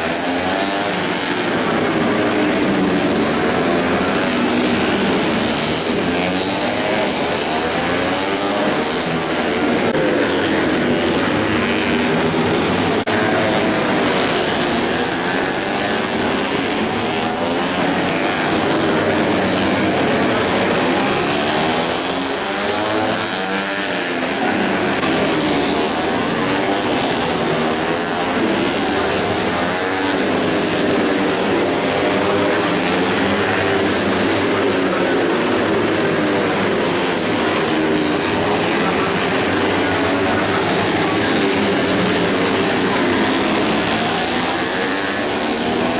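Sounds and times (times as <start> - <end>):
motorcycles revving past: 0.0 - 45.9.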